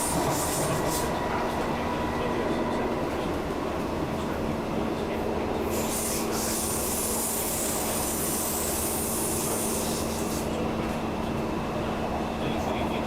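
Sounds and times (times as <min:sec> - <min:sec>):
train interior rumble and hum: 0:00.0 - 0:13.0.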